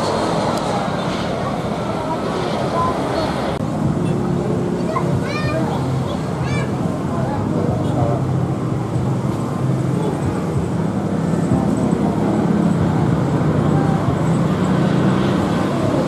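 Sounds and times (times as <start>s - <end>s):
jet aircraft engines rumbling: 0.0s - 16.0s
traffic: 0.0s - 16.0s.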